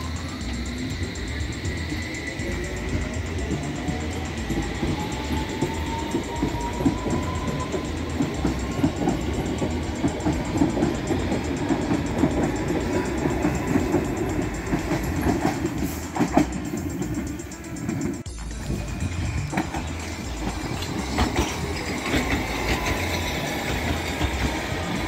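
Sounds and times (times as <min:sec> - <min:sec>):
train wheels clattering on track: 0:00.0 - 0:25.0.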